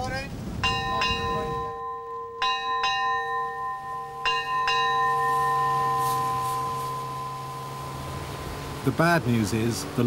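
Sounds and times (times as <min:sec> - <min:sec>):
ship's bell ringing: 0:00.6 - 0:10.0.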